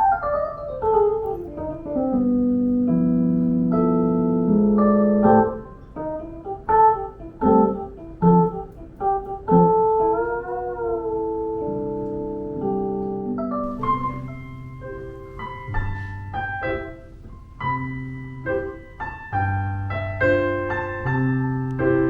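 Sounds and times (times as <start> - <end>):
keyboard playing piano chords: 0.0 - 22.0.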